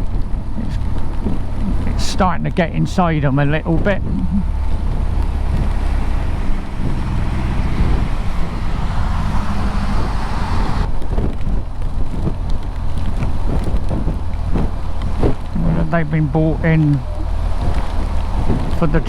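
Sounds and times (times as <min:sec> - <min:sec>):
motorcycle engine and road noise: 0:00.0 - 0:19.0
wind rumble on microphone: 0:00.0 - 0:19.0.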